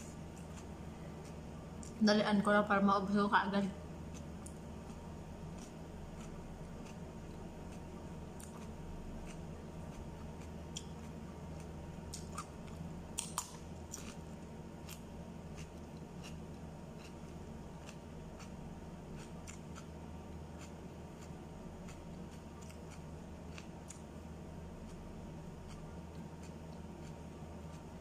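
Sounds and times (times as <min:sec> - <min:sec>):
crunchy chewing of cucumber: 0:00.0 - 0:02.0, 0:04.0 - 0:28.0
steady low hum: 0:00.0 - 0:28.0.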